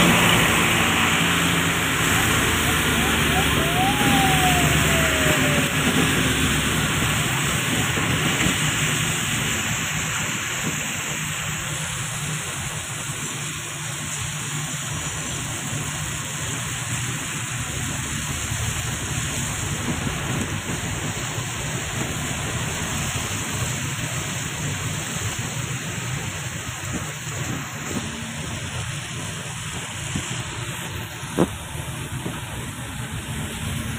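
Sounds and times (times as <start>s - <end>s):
road noise inside vehicle: 0.0s - 33.9s.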